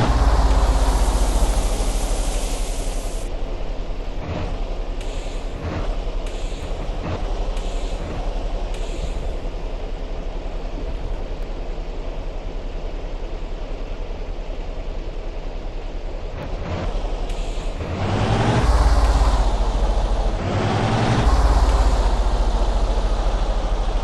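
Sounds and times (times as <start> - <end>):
heavy truck engine rumbling: 0.0 - 24.0.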